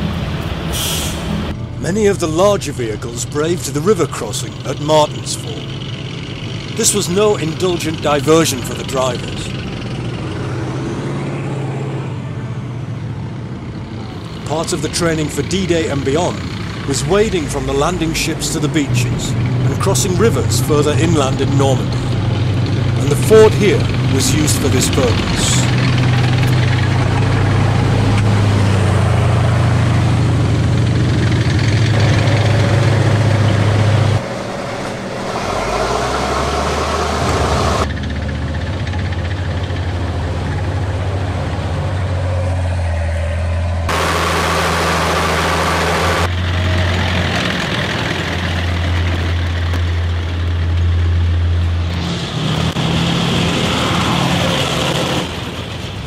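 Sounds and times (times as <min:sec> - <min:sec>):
tank engine running: 0:00.0 - 0:56.0
vehicles splashing across water: 0:02.1 - 0:12.1, 0:13.9 - 0:56.0.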